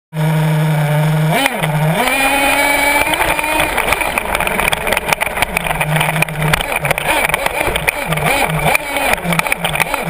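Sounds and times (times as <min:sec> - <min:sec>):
model truck engine revving: 0:00.2 - 0:10.0.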